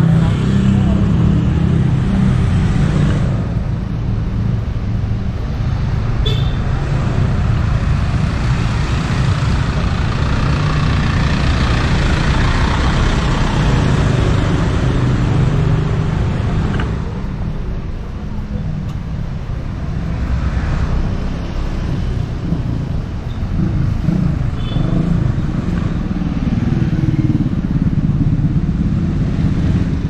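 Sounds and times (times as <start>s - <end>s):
road traffic rumbling: 0.0s - 30.0s.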